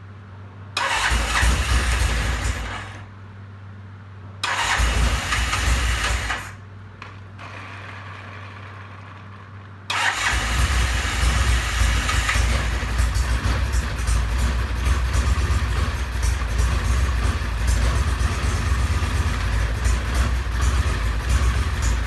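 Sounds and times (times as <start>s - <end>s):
motorcycle engine cranking and firing: 0.8s - 3.1s, 4.4s - 22.0s.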